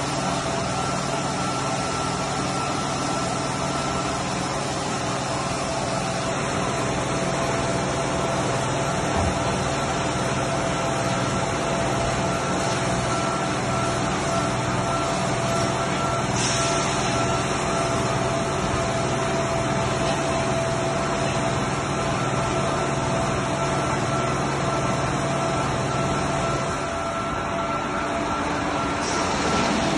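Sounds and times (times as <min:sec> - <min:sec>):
pumps and motors humming: 0:00.0 - 0:29.9.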